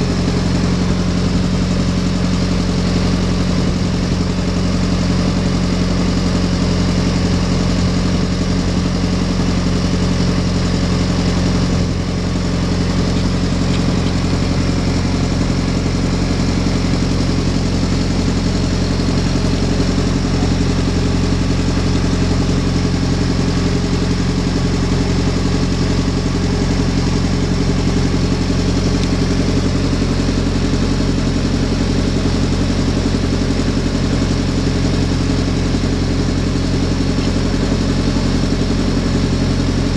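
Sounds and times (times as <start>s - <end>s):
boat engine humming: 0.0s - 39.9s.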